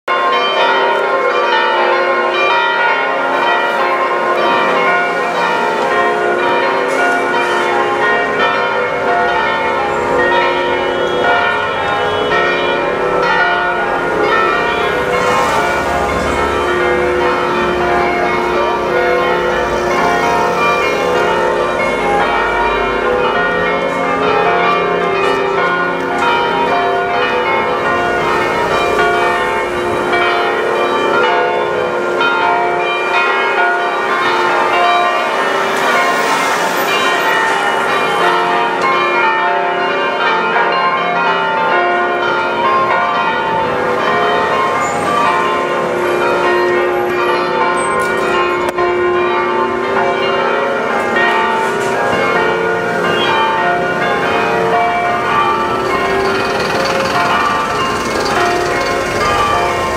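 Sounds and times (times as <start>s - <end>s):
church bells pealing: 0.1s - 59.9s.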